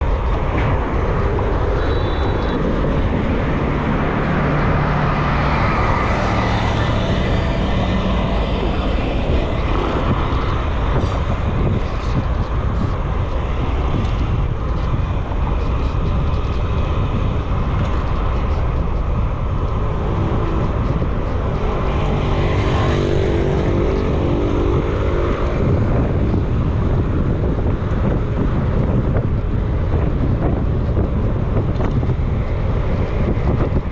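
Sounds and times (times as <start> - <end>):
engine hum: 0.0 - 33.9
wind buffeting microphone: 0.0 - 33.9.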